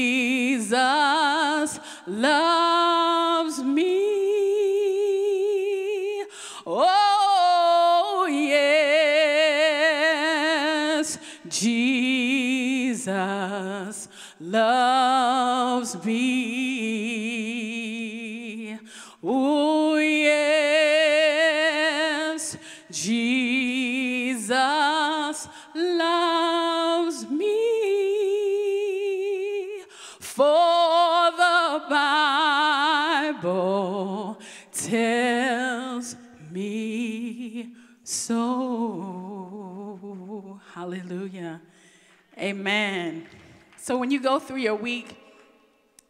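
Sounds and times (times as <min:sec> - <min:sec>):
woman singing gospel a cappella: 0:00.0 - 0:45.5.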